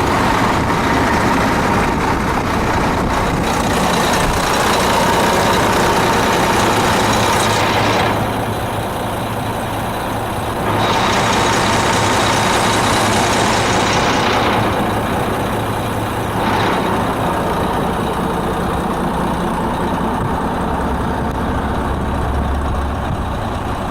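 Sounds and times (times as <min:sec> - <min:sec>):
diesel truck engine idling: 0:00.0 - 0:23.9.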